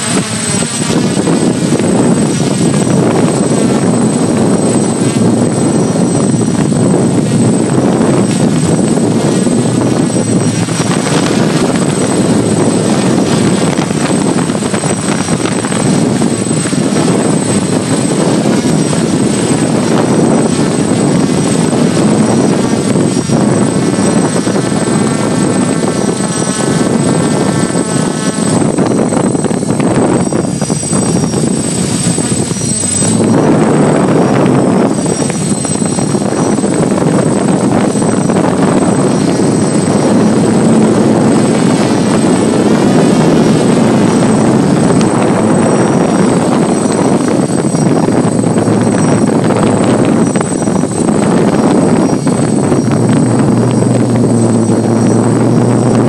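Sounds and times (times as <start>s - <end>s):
drone motors buzzing: 0.0s - 56.0s
thin high whine: 0.0s - 56.0s.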